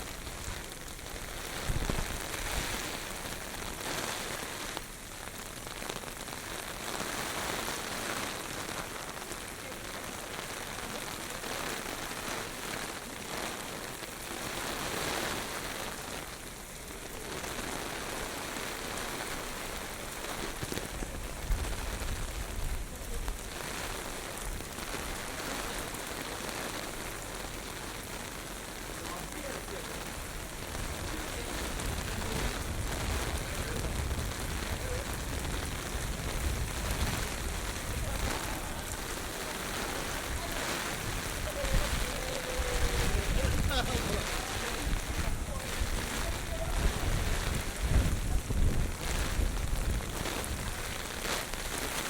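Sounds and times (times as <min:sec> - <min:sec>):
wind rumbling on microphone: 0:00.0 - 0:09.1, 0:10.2 - 0:52.0
heavy rain hissing: 0:00.0 - 0:52.0.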